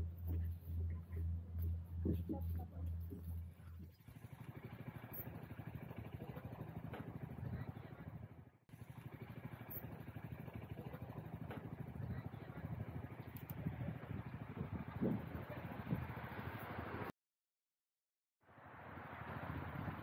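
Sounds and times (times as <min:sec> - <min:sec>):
motor running with rapid throb: 0:00.0 - 0:17.1.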